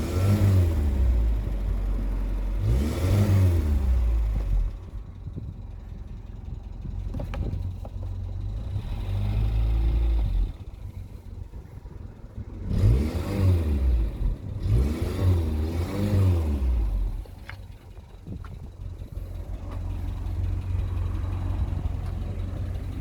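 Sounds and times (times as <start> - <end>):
van engine revving: 0.0 - 23.0.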